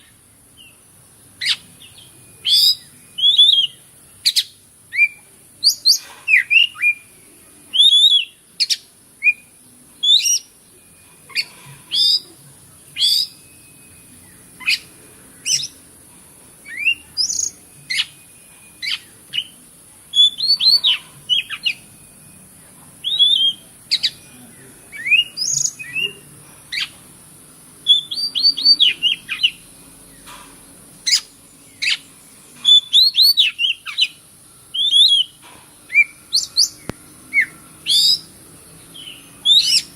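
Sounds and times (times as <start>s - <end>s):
magpie-robin singing: 0.0s - 16.0s, 16.6s - 27.0s, 27.8s - 39.9s.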